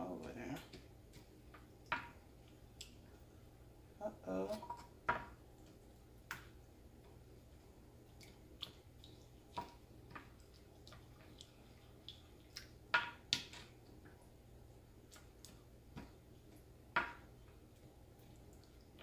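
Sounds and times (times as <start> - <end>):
wet squishing of stirred rice: 0.1 - 3.7, 4.6 - 19.0.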